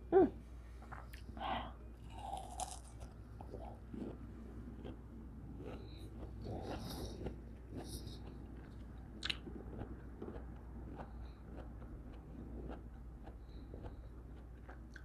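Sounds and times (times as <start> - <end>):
chewing melon: 2.0 - 15.0
wet mouth sounds: 2.1 - 15.0.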